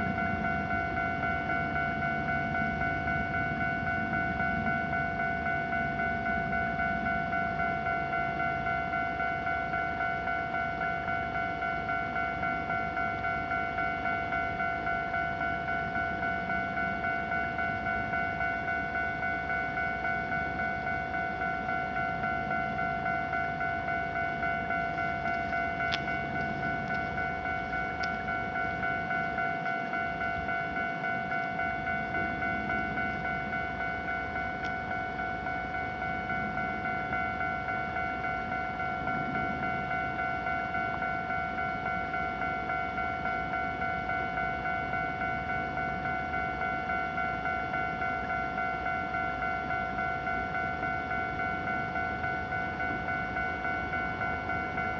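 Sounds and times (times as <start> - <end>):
level crossing electronic bell: 0.0 - 54.9.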